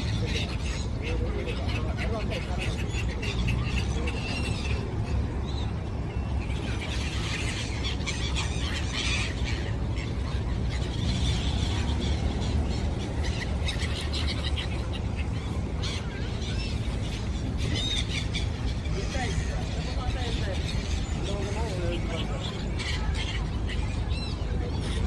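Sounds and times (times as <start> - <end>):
gulls calling: 0.0 - 25.0.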